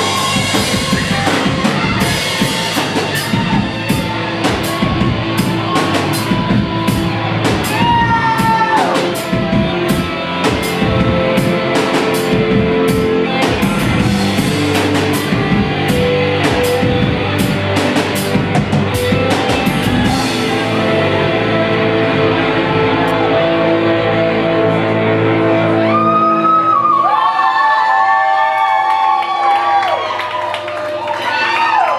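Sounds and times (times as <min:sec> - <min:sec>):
live rock band playing: 0:00.0 - 0:26.8.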